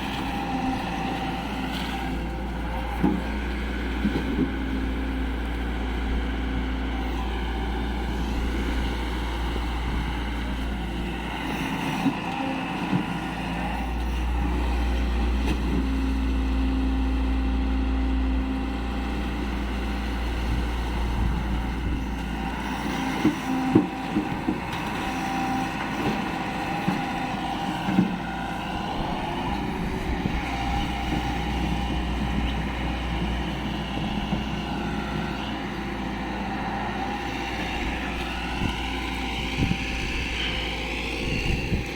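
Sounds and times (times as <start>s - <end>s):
excavator diesel engine rumbling: 0.0s - 41.9s.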